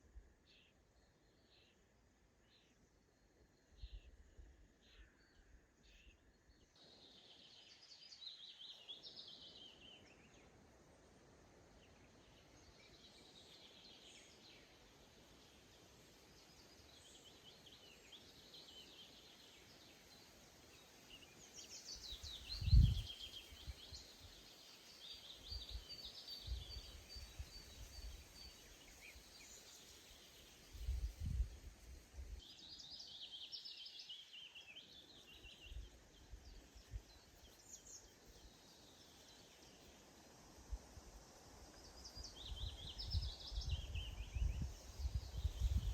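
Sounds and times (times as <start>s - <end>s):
faint outdoor hiss: 0.0s - 45.9s
songbirds chirping and trilling: 0.3s - 45.9s.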